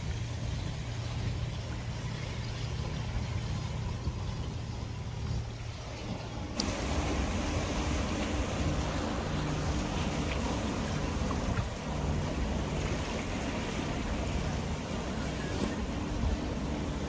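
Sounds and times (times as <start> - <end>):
motorboat engine droning: 0.0 - 17.0
waves washing: 0.0 - 17.0
wind: 0.0 - 17.0.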